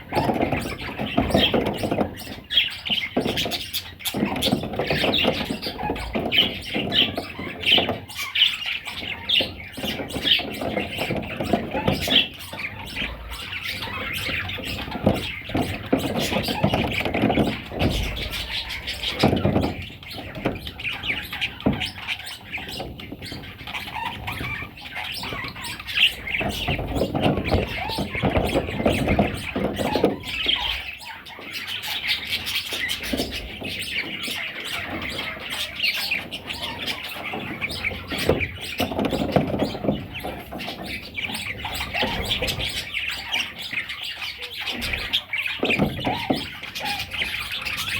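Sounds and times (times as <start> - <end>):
budgerigars chirping: 0.0 - 47.9
rustling and thumps: 0.0 - 47.9.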